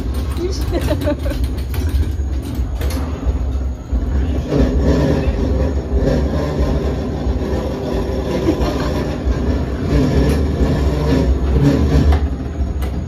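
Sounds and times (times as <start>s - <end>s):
ride car rumbling on track: 0.0s - 13.0s
wheels squeaking: 0.0s - 13.0s.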